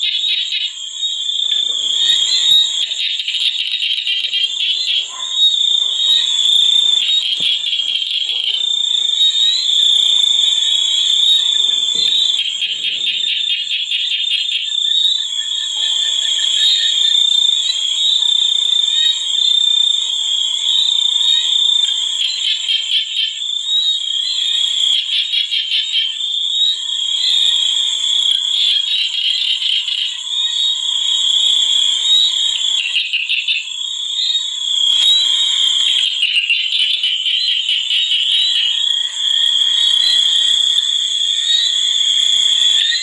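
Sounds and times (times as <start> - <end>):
frogs pulsing calls: 0.0 - 43.0
high-pitched insect trill: 0.0 - 43.0.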